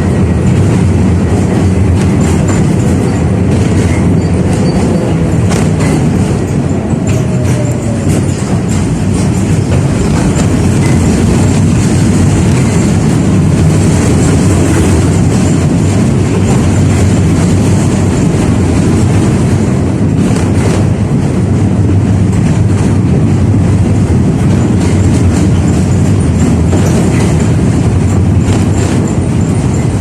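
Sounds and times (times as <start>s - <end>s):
tram wheels rumbling on rail: 0.0s - 30.0s.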